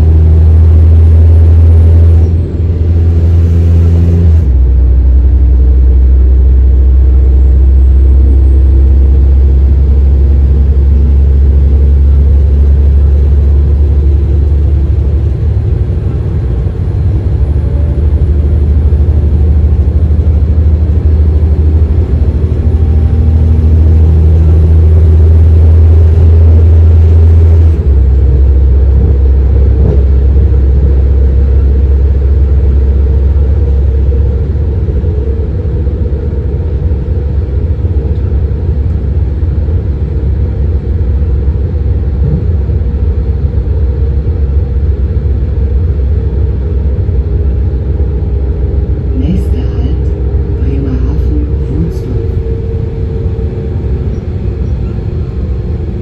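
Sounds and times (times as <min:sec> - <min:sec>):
diesel railcar engines droning: 0:00.0 - 0:56.0.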